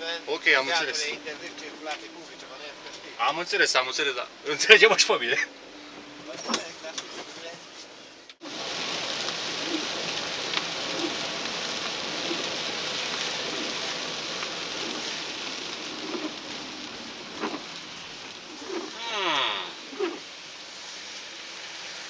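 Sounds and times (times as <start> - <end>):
rain on windscreen: 0.1 - 5.4, 6.0 - 22.0.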